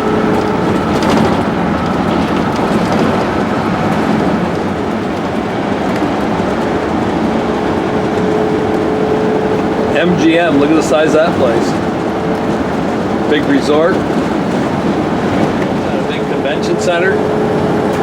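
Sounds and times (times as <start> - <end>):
light rattles: 0.0 - 16.5
road and tyre noise: 0.0 - 18.0.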